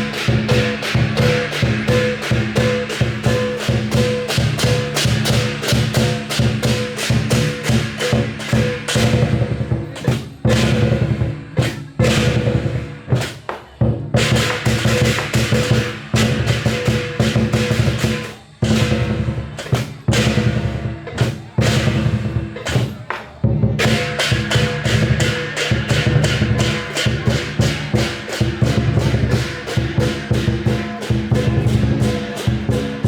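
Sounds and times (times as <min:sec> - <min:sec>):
big drum beating: 0:00.0 - 0:33.0
cymbals clashing: 0:00.0 - 0:33.0.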